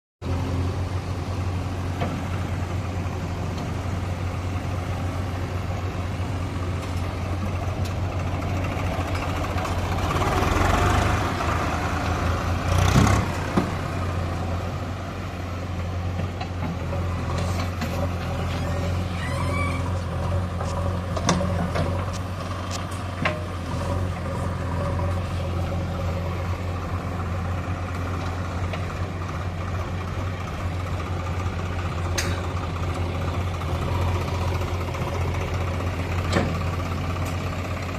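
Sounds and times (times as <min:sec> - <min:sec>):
diesel engine running and revving: 0:00.2 - 0:37.9.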